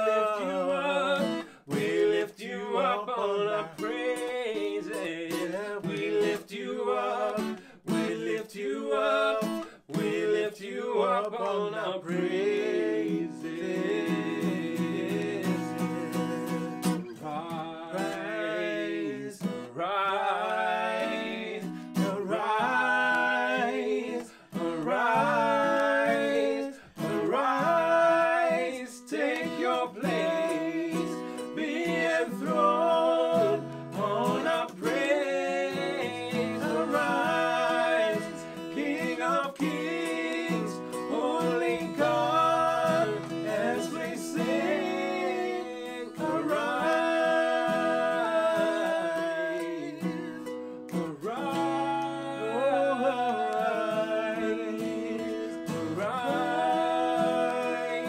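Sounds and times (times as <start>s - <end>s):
strummed acoustic guitar: 0.0s - 10.4s, 12.1s - 58.0s
men singing worship song: 0.0s - 50.5s, 51.2s - 58.0s.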